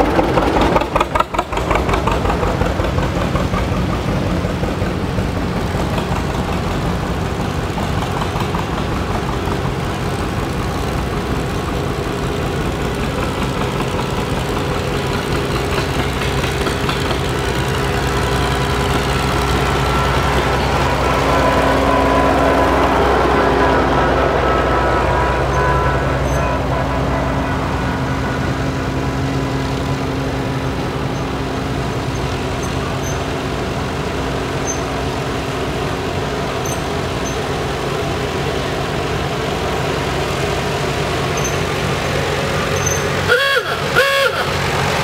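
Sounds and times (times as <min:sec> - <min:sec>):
old tractor engines running: 0:00.0 - 0:45.0.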